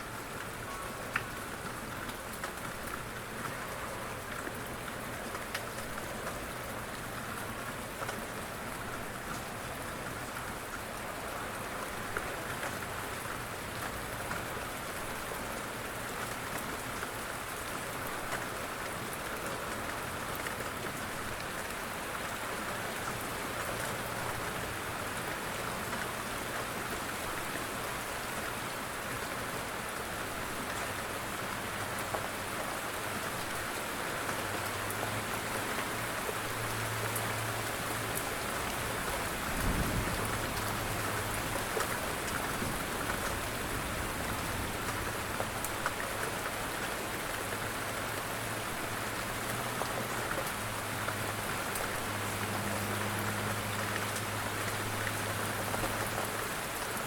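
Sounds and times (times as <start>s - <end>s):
raindrops pattering on surfaces: 0.0s - 57.0s
steady rain falling: 0.0s - 57.0s.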